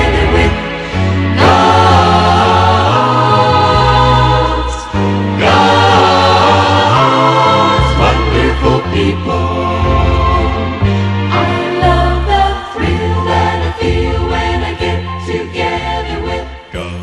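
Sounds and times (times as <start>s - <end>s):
choir singing sustained chords: 0.0s - 17.0s
steady bass accompaniment: 0.0s - 17.0s.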